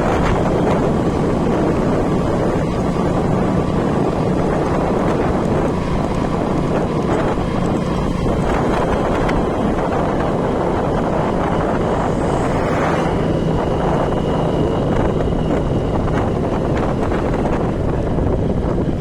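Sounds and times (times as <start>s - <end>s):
road and vehicle noise: 0.0s - 19.0s
wind rushing over microphone: 0.0s - 19.0s.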